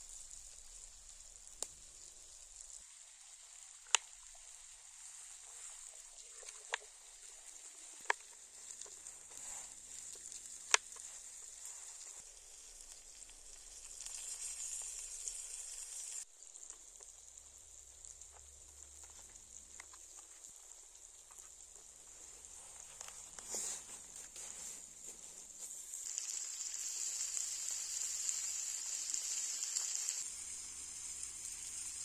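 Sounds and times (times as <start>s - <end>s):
meat sizzling on hot stone: 0.0s - 32.0s.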